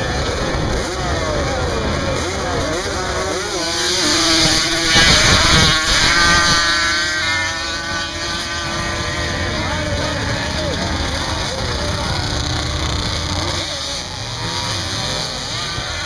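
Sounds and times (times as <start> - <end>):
quad engines revving: 0.0 - 16.0.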